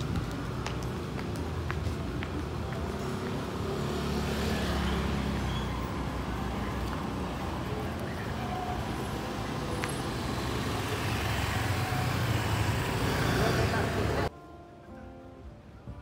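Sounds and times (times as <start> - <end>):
scooters and cars passing: 0.0 - 14.3.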